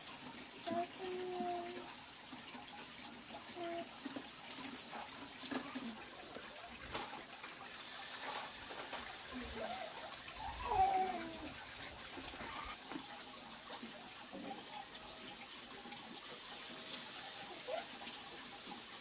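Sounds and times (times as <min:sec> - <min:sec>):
oil sizzling in a wok: 0:00.0 - 0:19.0.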